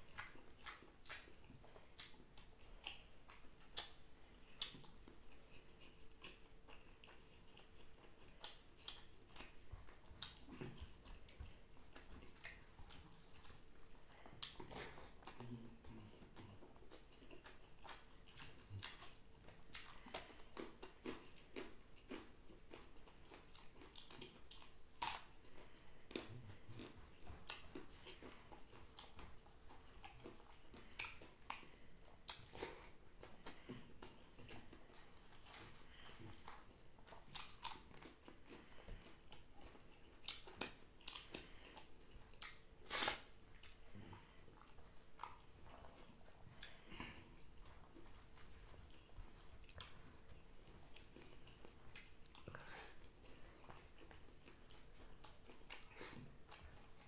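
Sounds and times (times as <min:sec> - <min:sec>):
mouth chewing: 0:00.0 - 0:57.0.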